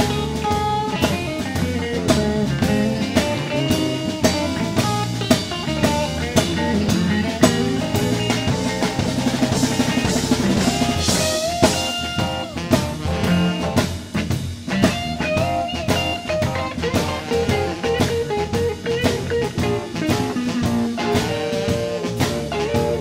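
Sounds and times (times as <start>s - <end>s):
drum kit beat: 0.0s - 23.0s
electric blues band playing: 0.0s - 23.0s.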